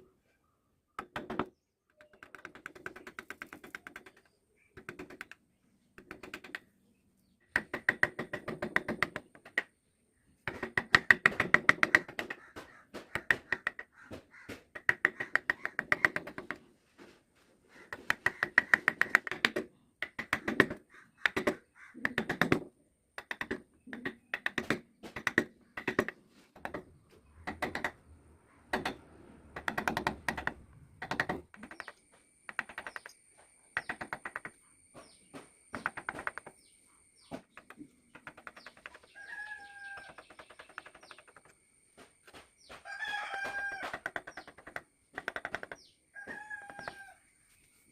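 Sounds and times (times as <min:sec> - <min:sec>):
carving tools tapping on wood: 0:01.0 - 0:05.4, 0:06.0 - 0:06.7, 0:07.5 - 0:09.8, 0:10.4 - 0:16.6, 0:17.8 - 0:28.0, 0:28.7 - 0:39.2, 0:39.9 - 0:47.0.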